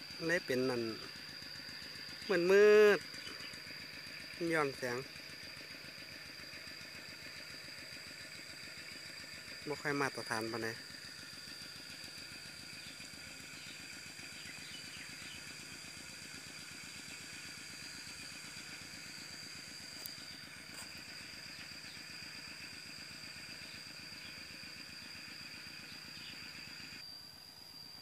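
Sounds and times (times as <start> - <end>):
small engine idling: 0.0 - 28.0.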